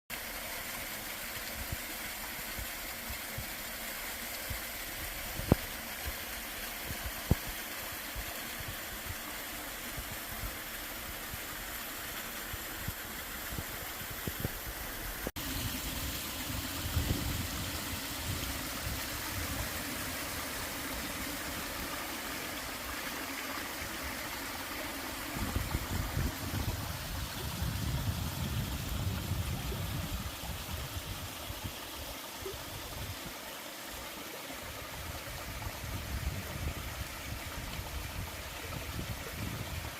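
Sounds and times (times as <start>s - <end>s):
waterfall rushing into pool: 0.1s - 39.9s.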